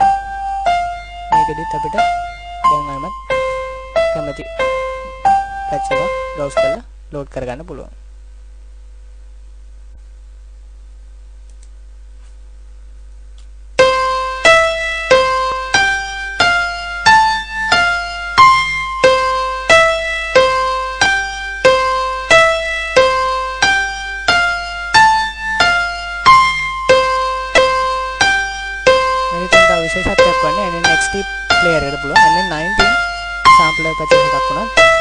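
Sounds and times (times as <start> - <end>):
sampled piano single notes: 0.0 - 6.9, 13.8 - 35.0
faint steady hum: 0.0 - 35.0.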